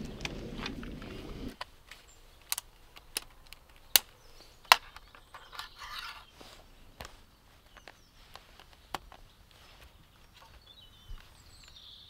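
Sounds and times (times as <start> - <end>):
brief rustle: 0.0 - 11.8.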